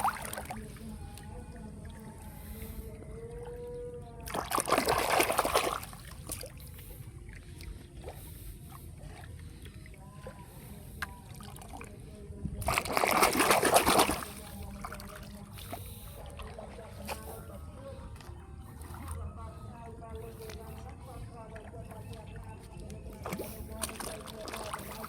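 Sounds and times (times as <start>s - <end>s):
water splashing: 0.0s - 25.0s.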